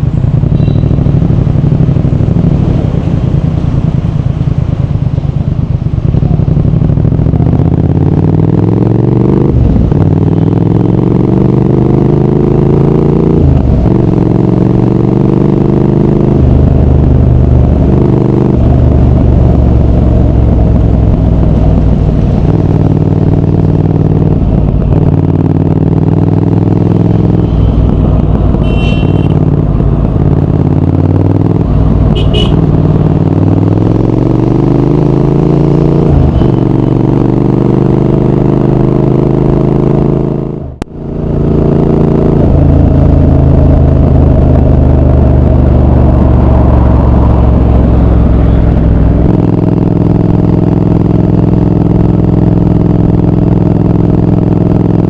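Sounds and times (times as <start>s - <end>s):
motorcycle engine accelerating through gears: 0.0s - 55.0s.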